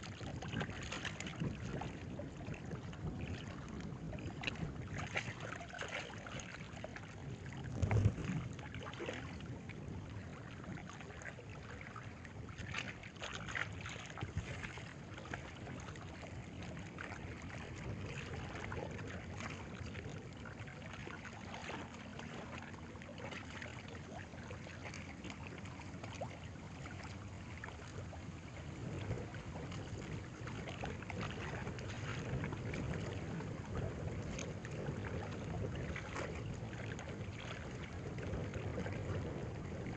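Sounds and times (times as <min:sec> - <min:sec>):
wind noise on microphone: 0:00.0 - 0:20.8, 0:25.7 - 0:39.9.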